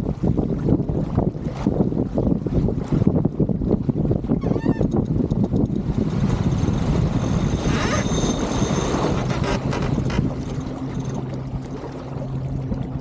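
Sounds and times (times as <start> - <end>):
wind and water rushing: 0.0 - 13.0.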